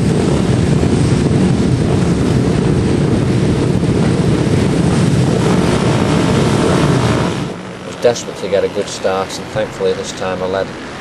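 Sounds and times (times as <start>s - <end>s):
racing motorcycles running hard: 0.0s - 11.0s
wind buffeting microphone: 0.0s - 11.0s.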